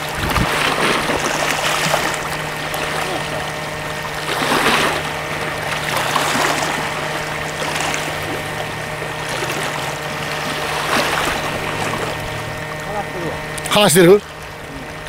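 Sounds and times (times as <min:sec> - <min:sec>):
low steady hum: 0:00.0 - 0:15.0
sea water washing on shore: 0:00.0 - 0:15.0.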